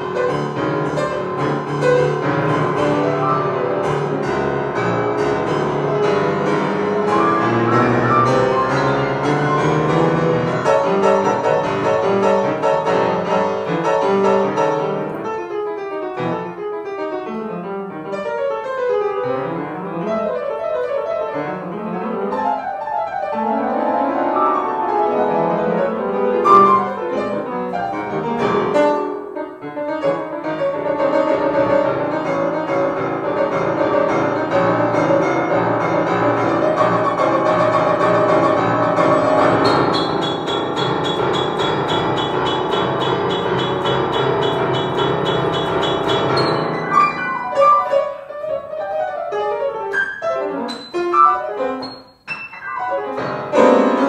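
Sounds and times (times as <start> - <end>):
jazz piano improvisation: 0.0 - 54.0.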